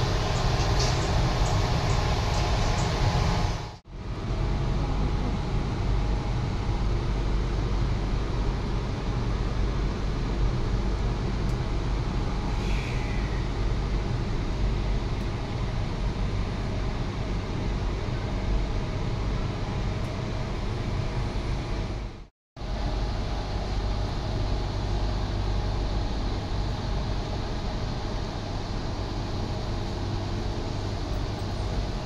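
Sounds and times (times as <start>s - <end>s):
train ride rumble with hiss: 0.0s - 32.0s.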